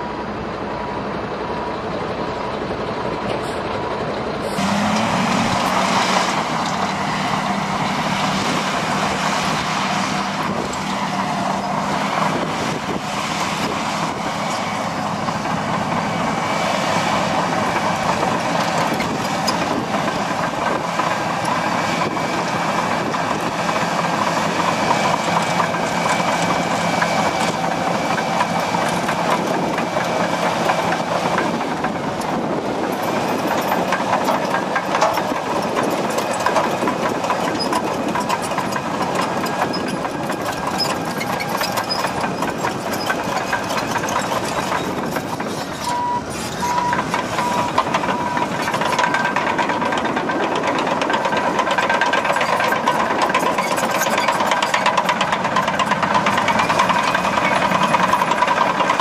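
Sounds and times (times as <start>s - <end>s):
diesel engine running: 0.0s - 59.0s
steel tracks clanking: 2.4s - 59.0s.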